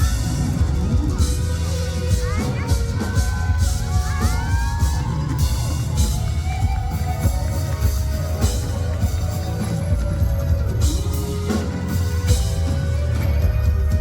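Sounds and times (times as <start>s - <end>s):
audience screaming and cheering: 0.0s - 14.0s
live band music: 0.0s - 14.0s.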